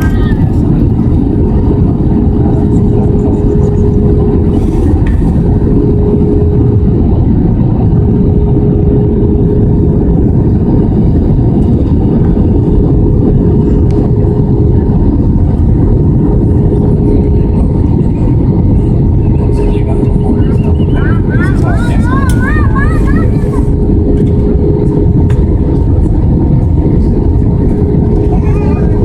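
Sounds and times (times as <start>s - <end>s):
aircraft cabin engine and airflow rush: 0.0s - 29.0s
constant hum tone: 0.0s - 29.0s.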